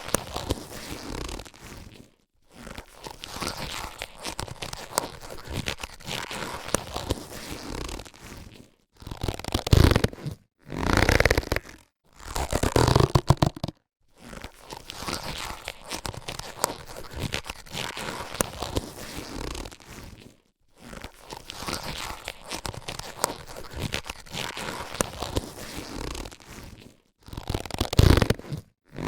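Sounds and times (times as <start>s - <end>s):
latex gloves rubbing and crinkling: 0.0s - 29.0s.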